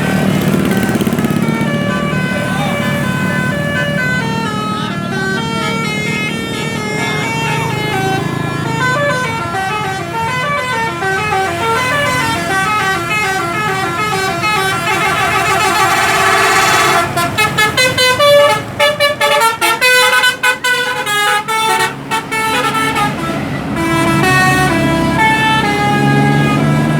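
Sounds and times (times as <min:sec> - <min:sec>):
bus engine: 0:00.0 - 0:26.9
musical bus horn playing tune: 0:00.0 - 0:26.9.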